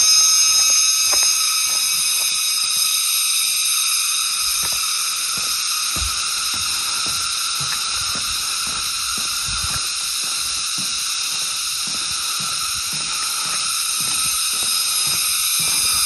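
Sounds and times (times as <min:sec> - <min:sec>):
water running with hissing rush: 0:00.0 - 0:16.0.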